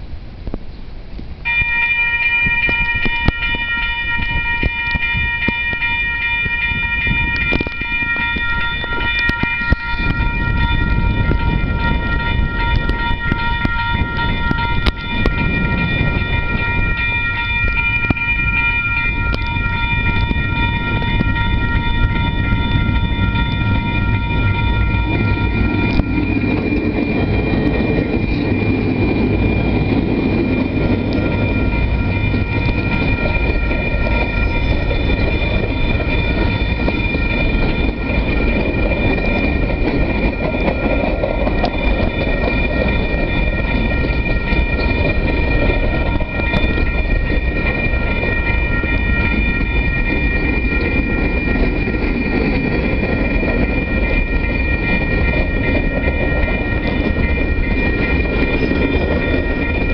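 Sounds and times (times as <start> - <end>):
low rumble of train: 0.0 - 59.9
level crossing warning bell: 1.4 - 59.9.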